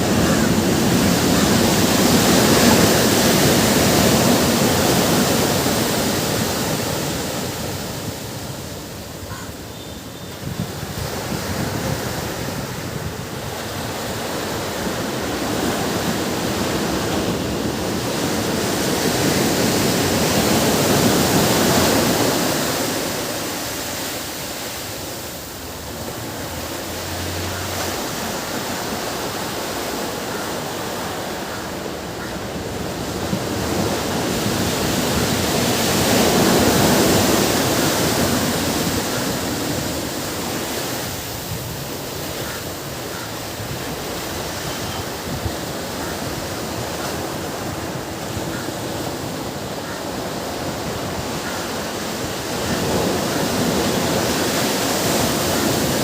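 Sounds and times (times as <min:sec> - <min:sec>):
ocean waves washing on beach: 0:00.0 - 0:56.0.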